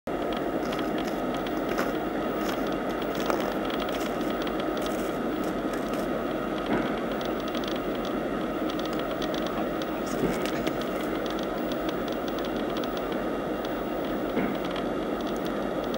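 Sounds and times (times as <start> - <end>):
distant freight train rumbling: 0.1 - 15.9
faint clicks and ticks: 0.1 - 15.9.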